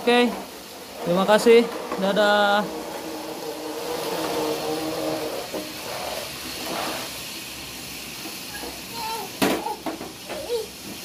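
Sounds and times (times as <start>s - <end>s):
toy train motor whine: 0.0s - 11.0s.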